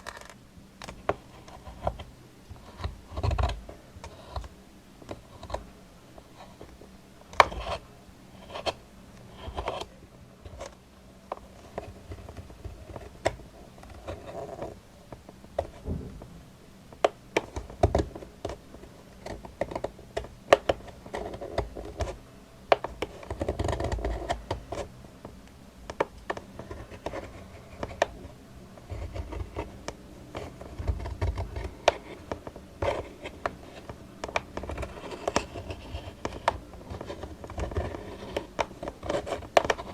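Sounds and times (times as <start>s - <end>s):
scratching and tapping on objects: 0.0s - 39.9s.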